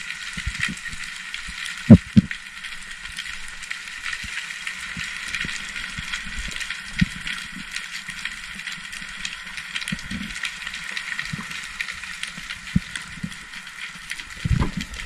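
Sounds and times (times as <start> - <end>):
crackling clicks: 0.0 - 15.0.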